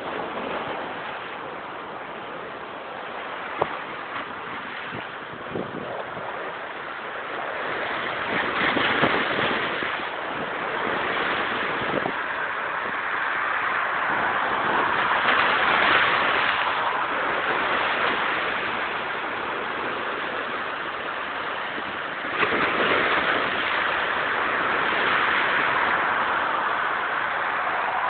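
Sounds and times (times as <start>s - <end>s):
heavy wind: 0.0s - 28.0s
waves breaking: 0.0s - 28.0s.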